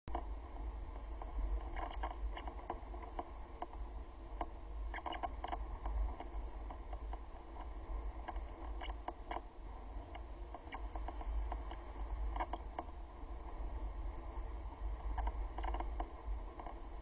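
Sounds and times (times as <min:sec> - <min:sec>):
small clicks and creaks: 0:00.1 - 0:13.0, 0:15.0 - 0:17.0
steady rush of noise: 0:00.1 - 0:17.0
wind rumbling on microphone: 0:00.1 - 0:17.0.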